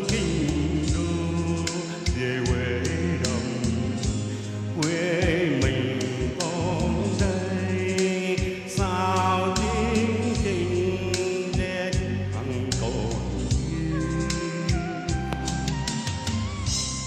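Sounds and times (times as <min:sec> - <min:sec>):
karaoke song accompaniment: 0:00.0 - 0:17.0.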